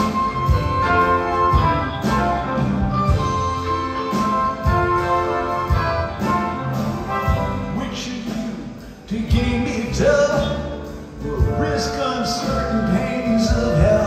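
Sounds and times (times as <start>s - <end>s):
rock band and orchestra playing: 0.0s - 14.0s.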